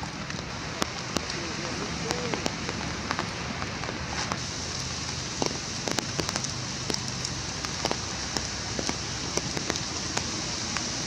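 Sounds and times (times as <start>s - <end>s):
drips striking leaves: 0.0s - 11.0s
rain hissing on foliage: 0.0s - 11.0s.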